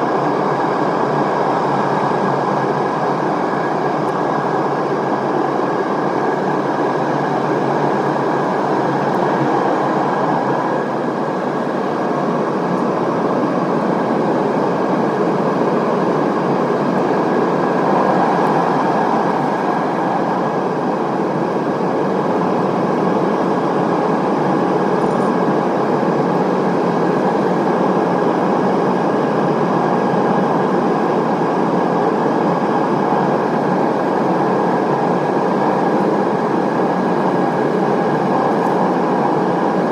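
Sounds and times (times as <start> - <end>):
airliner cabin noise: 0.0 - 39.9
thin steady whine: 0.0 - 39.9.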